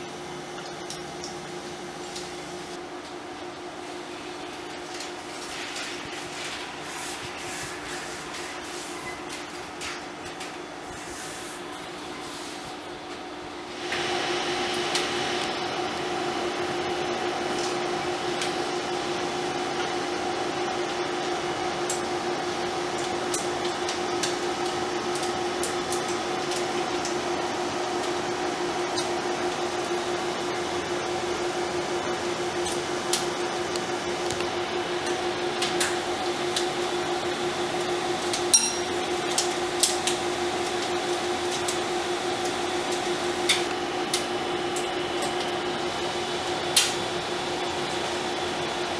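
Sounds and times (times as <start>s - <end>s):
machinery hum: 0.0s - 48.9s.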